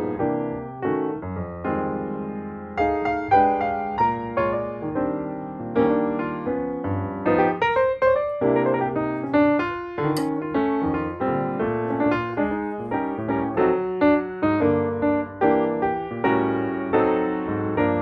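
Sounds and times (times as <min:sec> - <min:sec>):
calm piano music: 0:00.0 - 0:18.0.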